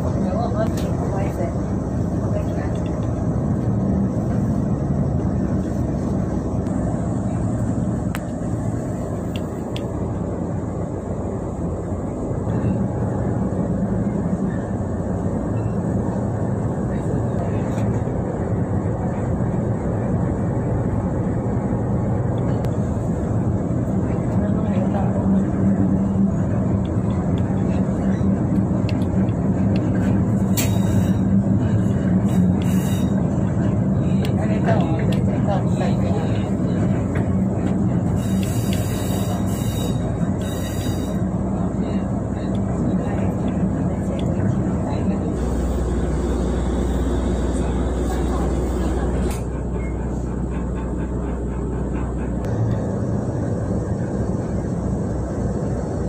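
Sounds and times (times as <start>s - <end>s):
railcar engine and wheels rumbling: 0.0s - 56.0s.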